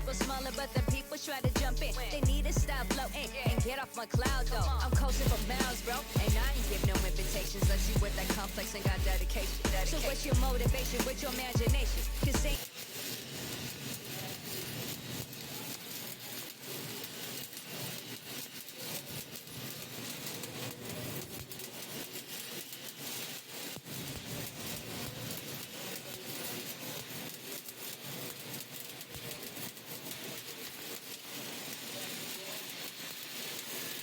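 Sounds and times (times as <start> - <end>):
welding arc crackling and sizzling: 0.0 - 34.0.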